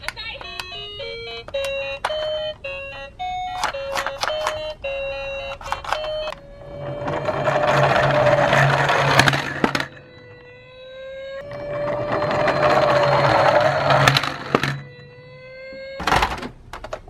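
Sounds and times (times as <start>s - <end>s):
toy whirring noise: 0.0s - 10.6s, 11.3s - 15.1s
toy beeping tune: 0.0s - 16.0s.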